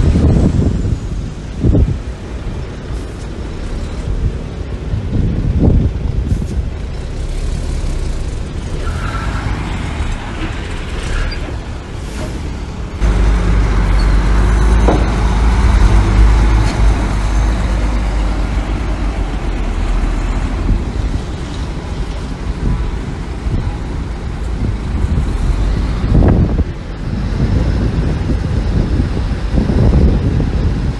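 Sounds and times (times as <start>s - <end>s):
heavy diesel machinery rumbling: 0.0s - 30.9s.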